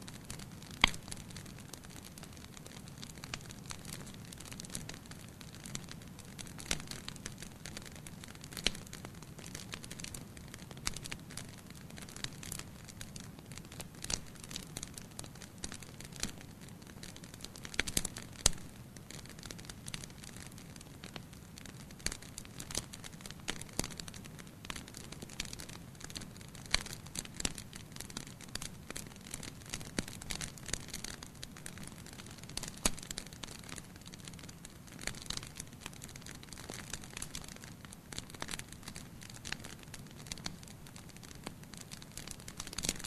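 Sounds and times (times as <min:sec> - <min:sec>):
wood fire crackling and popping: 0:00.1 - 0:43.0.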